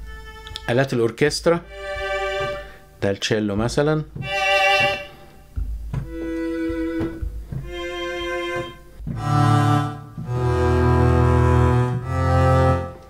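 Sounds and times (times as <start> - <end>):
bowed string notes: 0.0 - 13.0
low bowed bass notes: 0.0 - 13.0.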